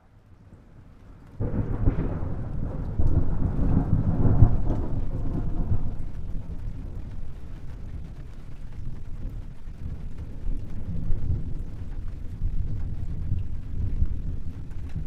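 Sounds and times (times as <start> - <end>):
rain falling: 0.0 - 15.0
thunder rolling: 0.4 - 15.0.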